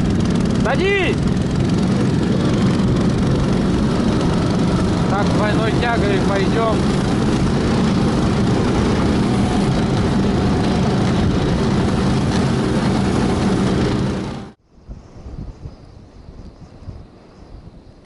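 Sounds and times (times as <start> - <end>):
vehicle engine running: 0.0 - 14.6
wind buffeting microphone: 0.0 - 18.0.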